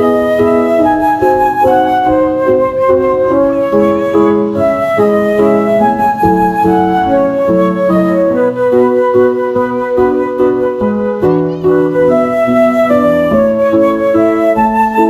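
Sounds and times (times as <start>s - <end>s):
flute-like melody: 0.0s - 15.0s
sustained keyboard notes: 0.0s - 15.0s.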